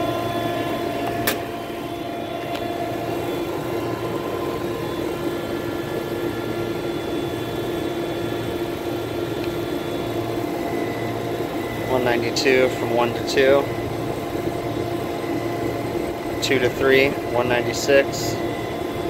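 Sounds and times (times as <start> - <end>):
refrigeration machinery drone: 0.0 - 19.0.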